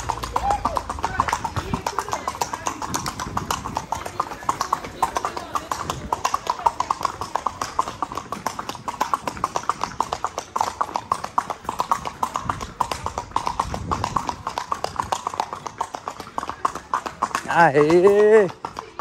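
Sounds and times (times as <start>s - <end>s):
horse hooves on cobblestones: 0.0s - 19.0s.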